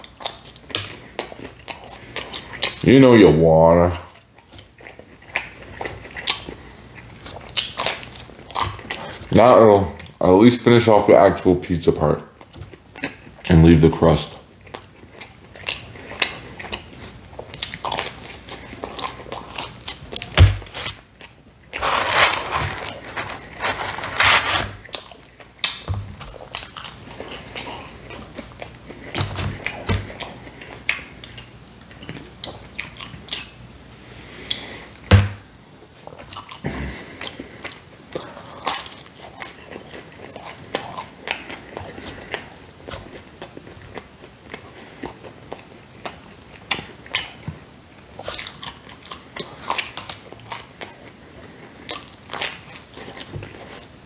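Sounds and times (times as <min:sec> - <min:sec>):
close chewing and biting: 0:00.0 - 0:03.1, 0:03.9 - 0:10.2, 0:12.2 - 0:35.1, 0:35.8 - 0:54.0.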